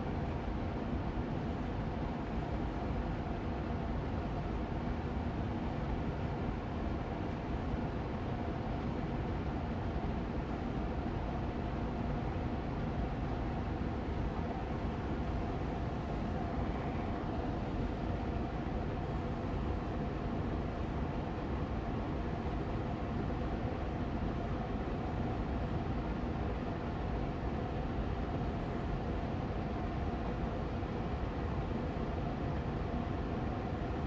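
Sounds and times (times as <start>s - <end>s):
air purifier fan rushing: 0.0s - 34.0s
faint hum: 0.0s - 34.0s.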